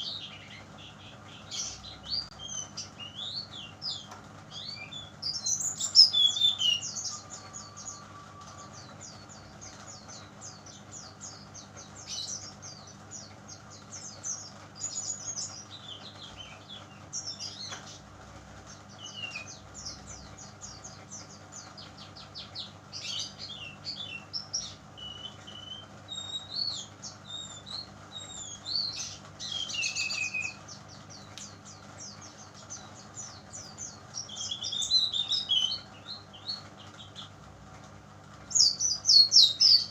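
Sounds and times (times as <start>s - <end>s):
bird twittering chirps: 0.0s - 18.0s, 18.7s - 37.3s, 38.5s - 39.9s.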